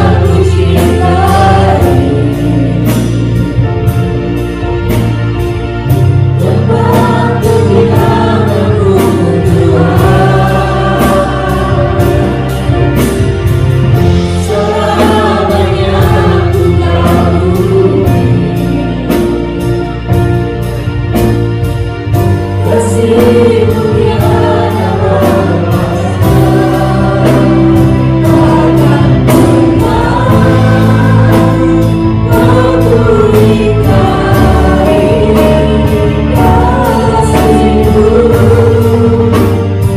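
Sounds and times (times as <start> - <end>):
voices singing together: 0.0 - 3.6, 6.3 - 20.0, 22.6 - 39.9
bass: 0.0 - 39.9
drum kit beat: 0.0 - 39.9
keyboard: 0.0 - 39.9.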